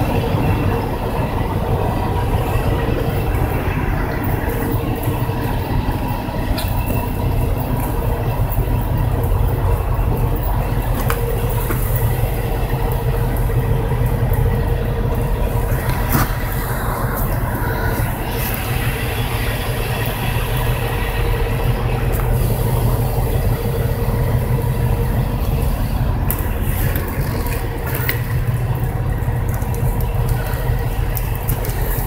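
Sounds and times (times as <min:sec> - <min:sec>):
heavy vehicle engine rumbling: 0:00.0 - 0:32.0.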